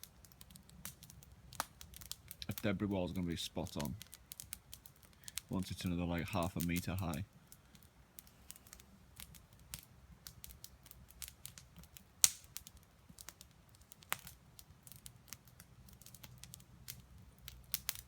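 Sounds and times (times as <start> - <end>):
campfire crackling: 0.0 - 18.0
loud fire pops: 0.0 - 18.0.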